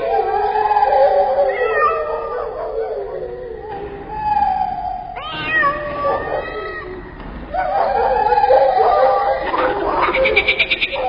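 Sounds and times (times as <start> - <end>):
animals howling: 0.0 - 11.0.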